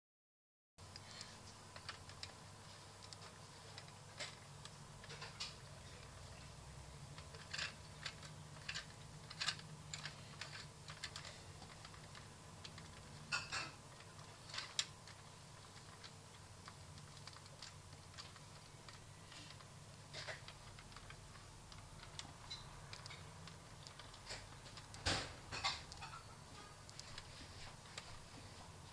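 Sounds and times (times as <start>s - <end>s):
faint low hum: 0.8s - 28.9s.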